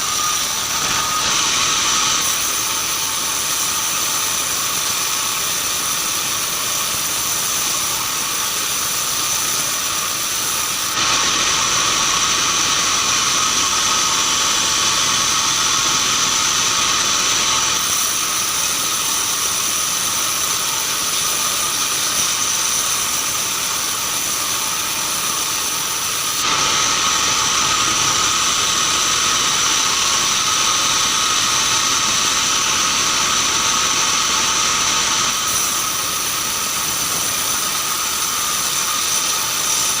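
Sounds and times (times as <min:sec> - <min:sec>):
band sawmill sawing wood: 0:00.0 - 0:40.0.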